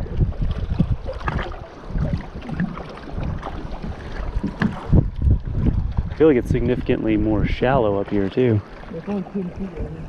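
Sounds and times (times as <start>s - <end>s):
water lapping against boat: 0.0s - 10.0s
wind buffeting microphone: 0.0s - 10.0s.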